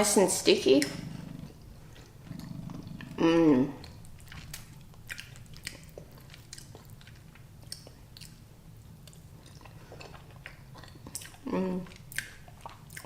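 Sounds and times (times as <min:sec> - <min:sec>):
person chewing food: 0:00.8 - 0:03.2, 0:03.8 - 0:13.0.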